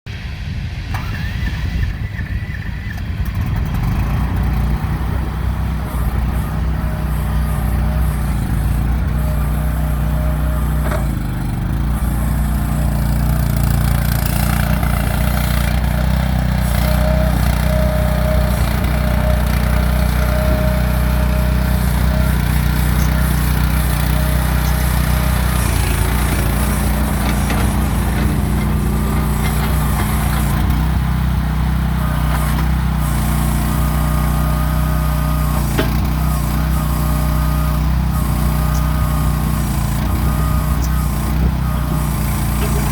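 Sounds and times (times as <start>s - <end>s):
small gasoline engine running: 0.6s - 42.9s.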